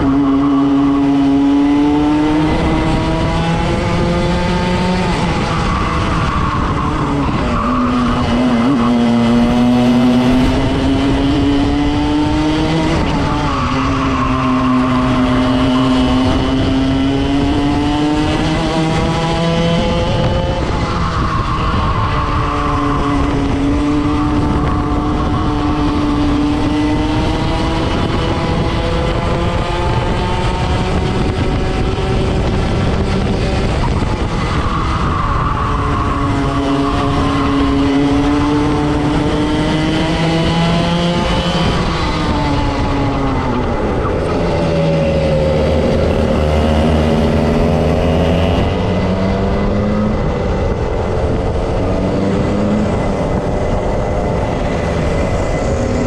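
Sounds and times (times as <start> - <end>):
kart engine racing: 0.0 - 56.0.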